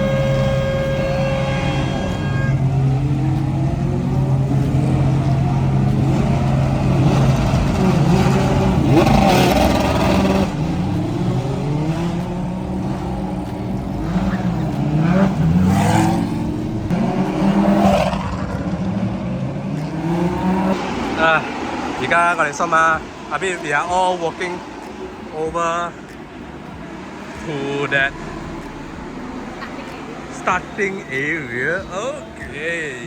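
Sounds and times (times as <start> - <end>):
race car engines idling and revving: 0.0 - 33.0.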